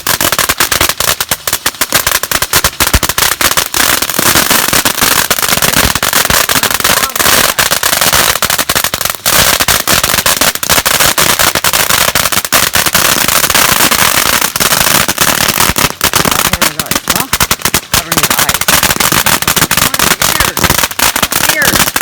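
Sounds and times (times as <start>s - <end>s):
rapid crackling and popping: 0.0s - 22.0s.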